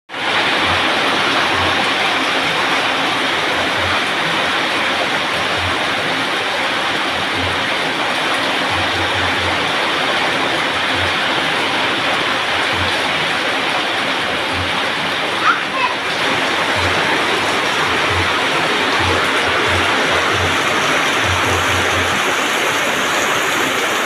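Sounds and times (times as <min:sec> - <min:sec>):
heavy rain pouring: 0:00.1 - 0:24.0.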